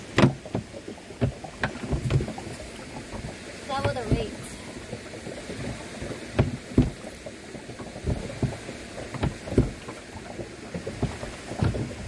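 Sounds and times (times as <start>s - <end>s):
paddle knocks and splashes: 0.0s - 12.0s.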